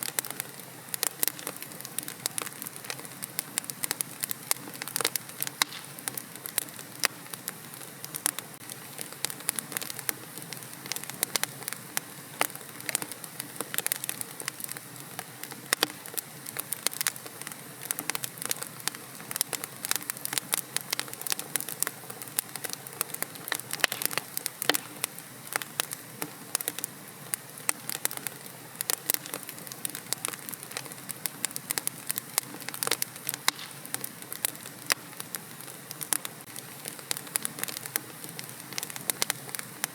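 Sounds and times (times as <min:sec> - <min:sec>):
soft hiss of flames: 0:00.0 - 0:39.9
wood fire crackling and popping: 0:00.0 - 0:39.9.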